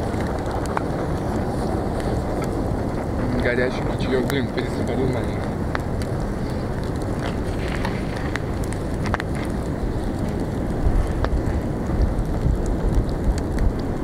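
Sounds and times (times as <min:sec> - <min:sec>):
campfire crackling: 0:00.0 - 0:14.0
wind buffeting microphone: 0:00.0 - 0:14.0.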